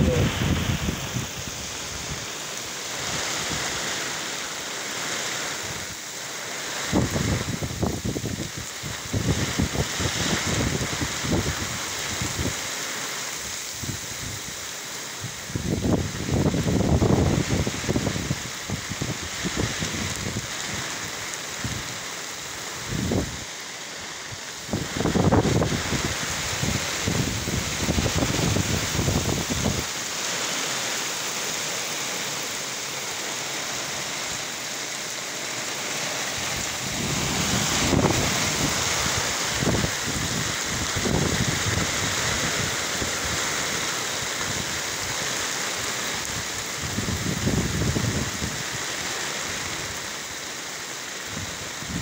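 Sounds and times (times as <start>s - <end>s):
heavy rain falling: 0.0s - 52.0s
rumbling gusts of wind: 0.0s - 52.0s.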